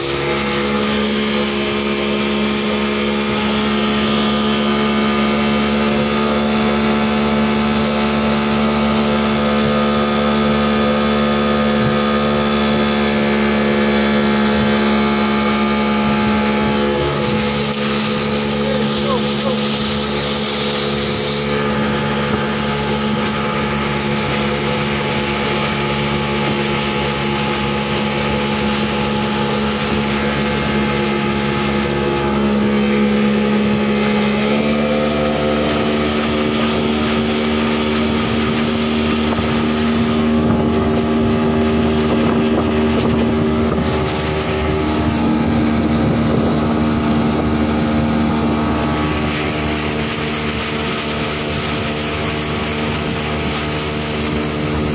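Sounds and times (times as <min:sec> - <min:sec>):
outboard motor running: 0:00.0 - 0:54.9
water rushing past hull: 0:00.0 - 0:54.9.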